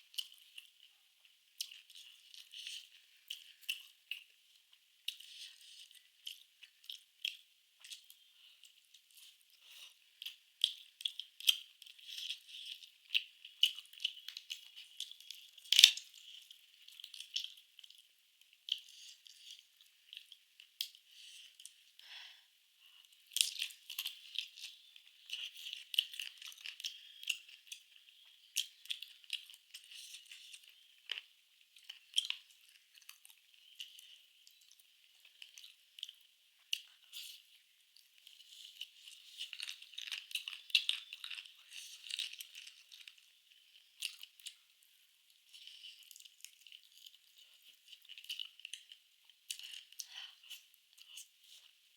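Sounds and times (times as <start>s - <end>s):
chewing and crunching food: 0.0s - 51.9s.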